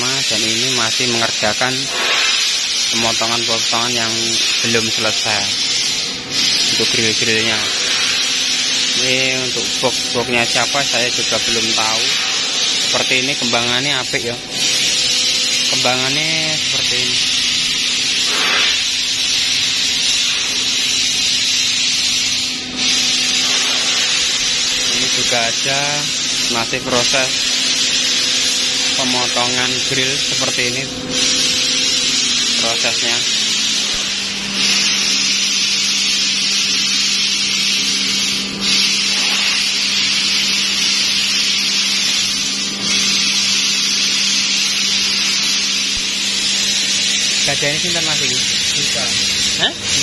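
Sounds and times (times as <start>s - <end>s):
laser cutter hissing: 0.0s - 50.0s.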